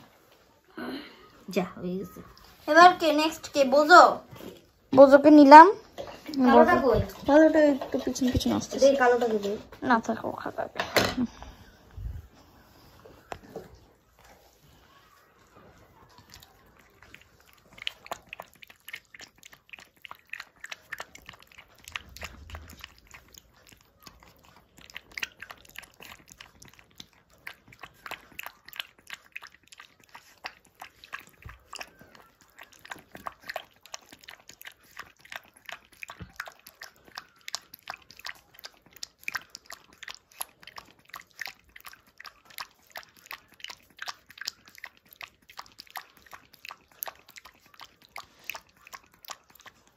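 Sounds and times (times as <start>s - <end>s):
puppy lapping milk: 1.3s - 49.9s.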